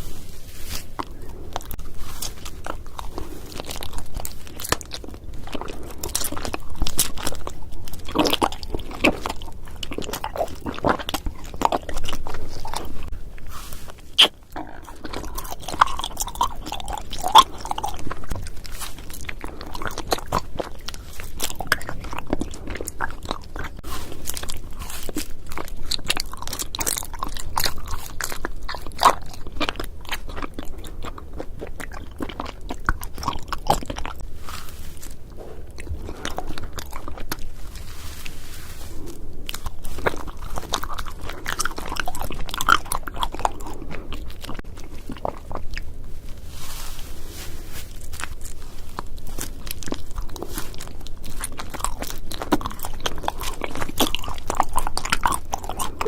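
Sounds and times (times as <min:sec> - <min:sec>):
close-miked biting and chewing: 0:00.0 - 0:56.0.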